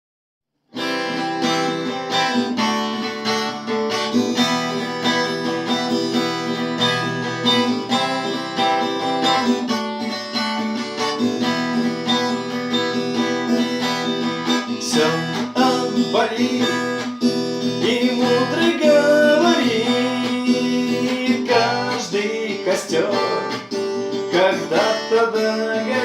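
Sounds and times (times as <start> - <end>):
acoustic guitar strumming: 0.7 - 26.0.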